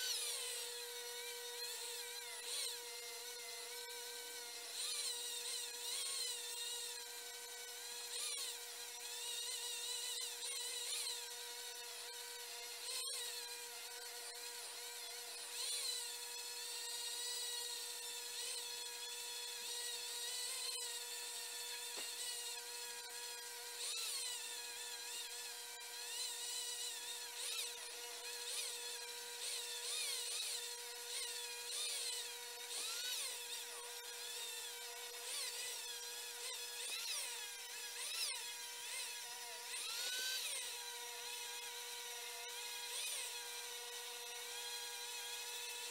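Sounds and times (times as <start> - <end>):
rotary tool grinding metal: 0.0 - 45.9.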